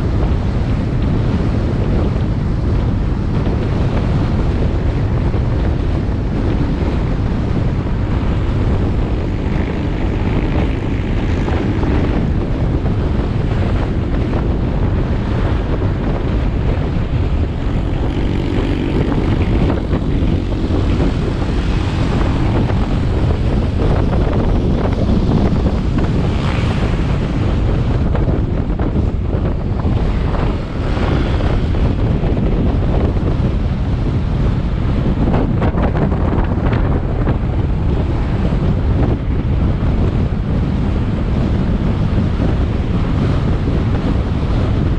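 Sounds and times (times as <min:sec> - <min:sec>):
motorbike engine running: 0:00.0 - 0:44.9
road noise: 0:00.0 - 0:44.9
wind buffeting microphone: 0:00.0 - 0:44.9.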